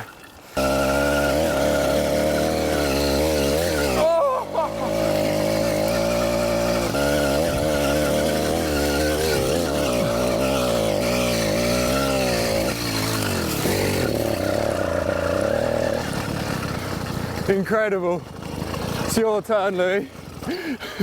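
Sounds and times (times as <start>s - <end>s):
two-stroke engine at high revs: 0.0s - 21.0s.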